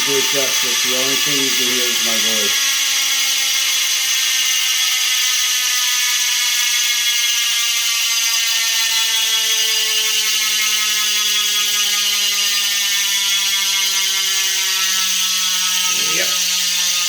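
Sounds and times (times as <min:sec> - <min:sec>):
bicycle freehub buzzing: 0:00.0 - 0:17.0.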